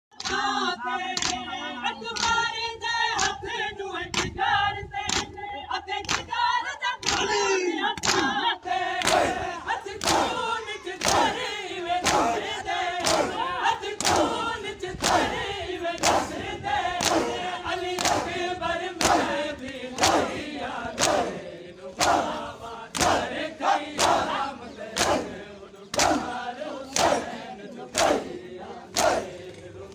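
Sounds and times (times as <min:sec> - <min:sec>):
men chanting a lament: 0:00.1 - 0:29.9
crowd slapping chests: 0:00.2 - 0:01.5, 0:03.2 - 0:03.4, 0:05.0 - 0:05.4, 0:06.0 - 0:06.4, 0:07.0 - 0:29.9.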